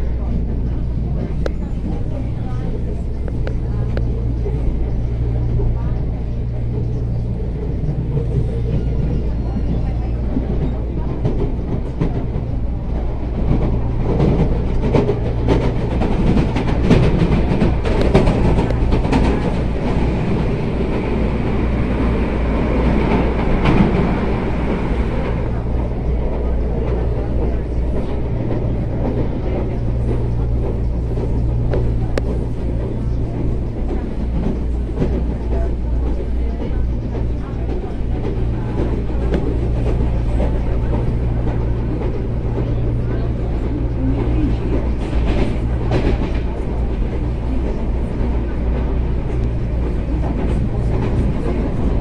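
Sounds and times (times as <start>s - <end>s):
train rumble inside carriage: 0.0s - 52.0s.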